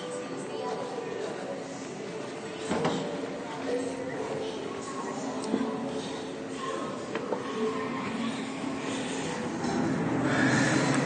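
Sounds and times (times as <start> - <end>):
mechanical hum and rumble: 1.7 - 11.0.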